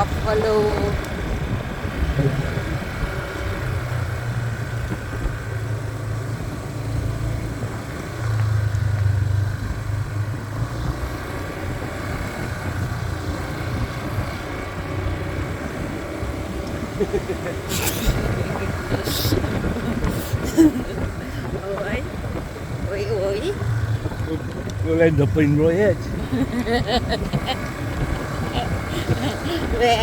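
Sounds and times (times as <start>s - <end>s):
motorbike engine running: 0.0s - 30.0s
road noise: 0.0s - 30.0s
wind noise: 0.0s - 30.0s.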